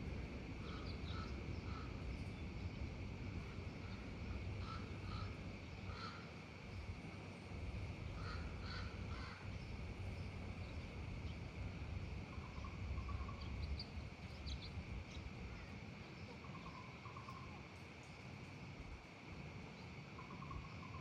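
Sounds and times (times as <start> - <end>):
faint low rumble: 0.0 - 21.0
high insect drone: 0.0 - 21.0
distant bird calls: 0.4 - 7.0, 7.8 - 17.7, 19.7 - 21.0.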